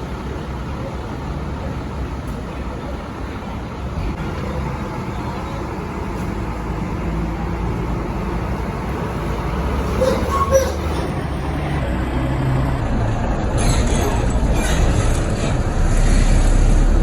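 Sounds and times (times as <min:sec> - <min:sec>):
bus engine rumble: 0:00.0 - 0:17.0
road and traffic noise: 0:00.0 - 0:17.0.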